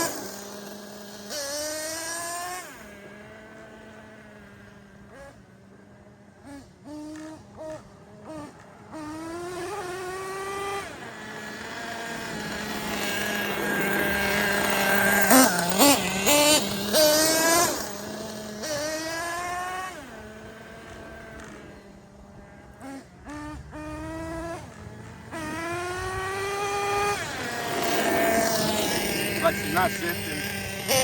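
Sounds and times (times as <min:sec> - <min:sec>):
rc truck nitro engine revving: 0:00.0 - 0:31.0.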